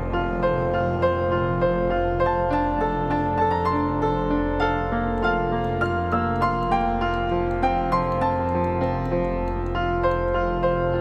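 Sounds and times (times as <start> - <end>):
gentle keyboard melody: 0.0 - 11.0.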